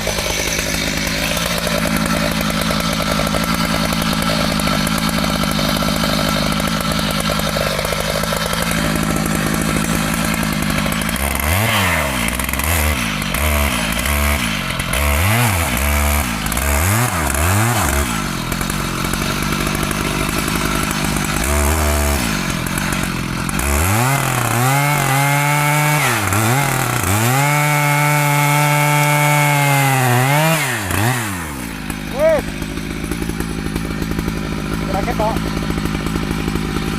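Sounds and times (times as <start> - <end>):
chainsaw revving: 0.0 - 36.9.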